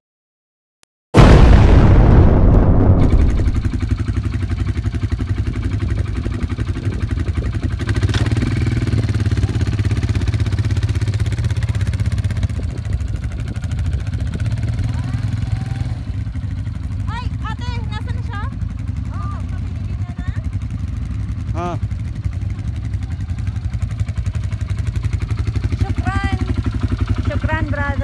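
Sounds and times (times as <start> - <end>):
quad bike engine droning: 3.6 - 28.0.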